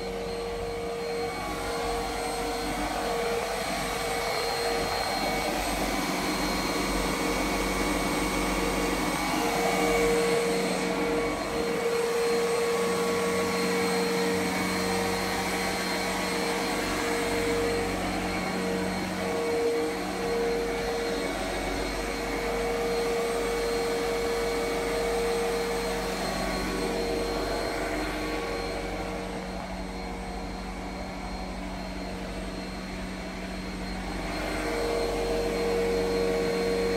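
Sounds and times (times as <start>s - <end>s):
motor humming: 0.0s - 36.9s.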